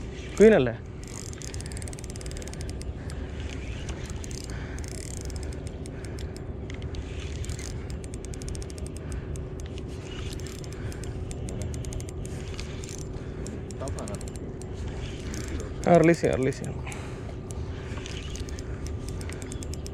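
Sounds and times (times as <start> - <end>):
fishing reel clicking: 0.3 - 19.9.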